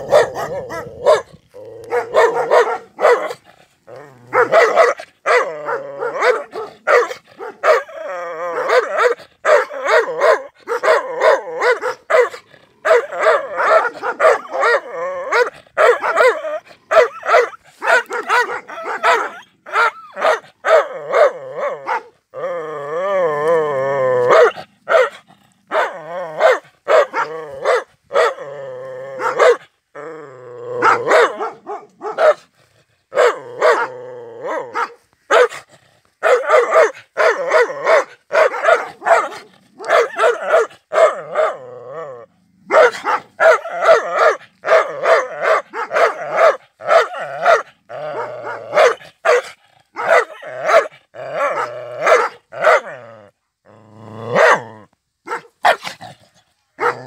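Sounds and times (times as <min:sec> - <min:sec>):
dog barking angrily: 0:00.0 - 0:03.5, 0:04.2 - 0:22.2, 0:24.2 - 0:28.4, 0:29.2 - 0:29.7, 0:30.8 - 0:32.5, 0:33.1 - 0:41.6, 0:42.6 - 0:53.0, 0:54.3 - 0:56.2, 0:56.8 - 0:57.0
dog growling: 0:00.0 - 0:17.2, 0:18.1 - 0:32.2, 0:33.1 - 0:34.9, 0:36.4 - 0:49.0, 0:49.8 - 0:54.9.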